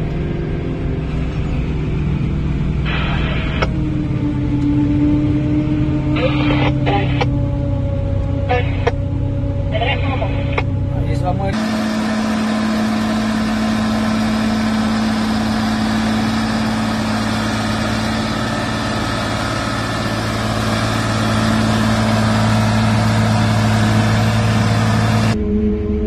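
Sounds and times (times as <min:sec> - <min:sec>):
tractor diesel engine under load: 0:00.0 - 0:25.6
machine engine high hum: 0:00.0 - 0:26.0.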